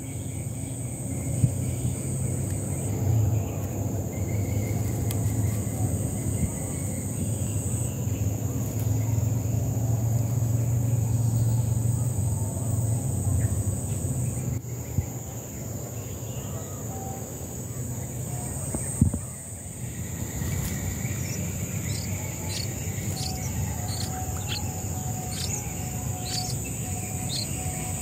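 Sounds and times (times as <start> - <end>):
insects chirring: 0.0 - 28.0
low steady rumble: 0.0 - 28.0.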